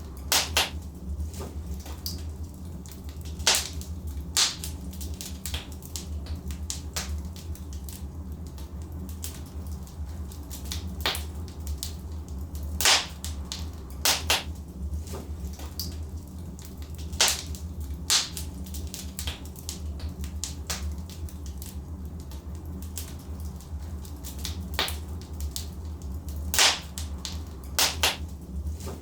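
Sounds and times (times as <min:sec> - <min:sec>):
fire rumbling: 0:00.0 - 0:29.0
wood cracking and popping: 0:00.1 - 0:29.0.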